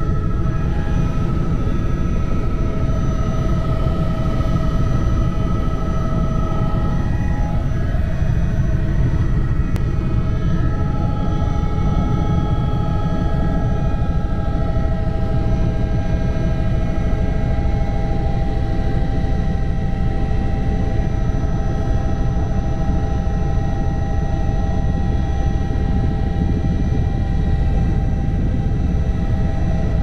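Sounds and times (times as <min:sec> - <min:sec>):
helicopter engine and rotor rumble: 0:00.0 - 0:30.0
steady whine: 0:00.0 - 0:30.0.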